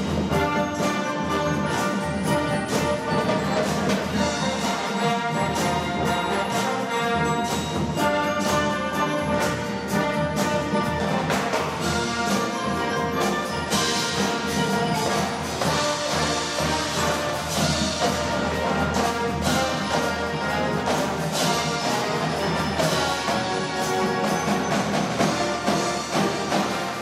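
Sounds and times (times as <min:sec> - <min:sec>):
brass instruments: 0:00.0 - 0:27.0
marching band playing: 0:00.0 - 0:27.0
percussion strikes: 0:00.0 - 0:27.0.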